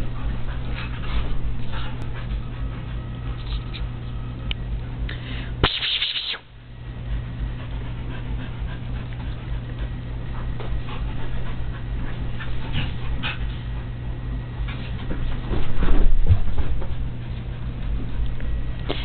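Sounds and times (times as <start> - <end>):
dogs play-wrestling: 0.0 - 4.3, 7.0 - 19.0.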